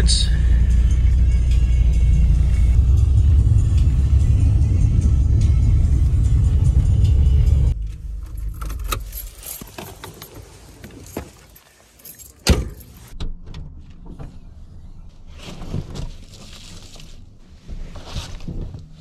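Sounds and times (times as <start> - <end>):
van driving rumble: 0.0 - 19.0.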